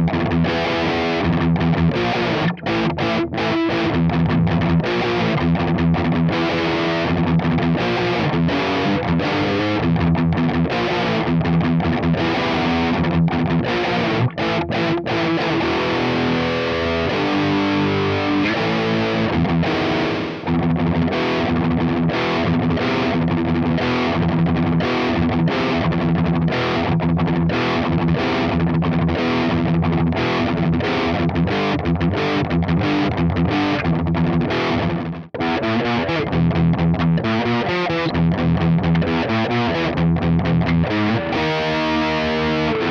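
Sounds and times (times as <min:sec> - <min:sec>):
distorted electric guitar riffing: 0:00.0 - 0:42.9.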